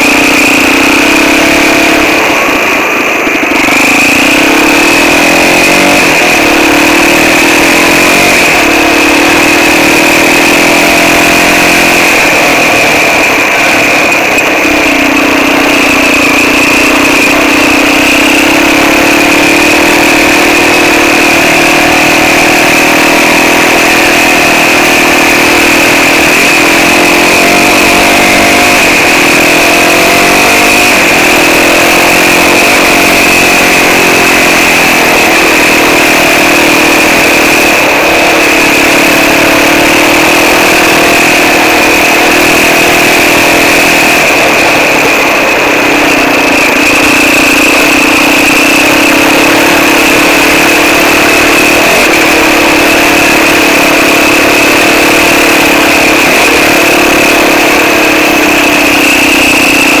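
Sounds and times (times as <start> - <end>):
constant rushing noise: 0.0 - 60.0
quad bike engine running: 0.0 - 60.0
steady high whine: 0.0 - 60.0.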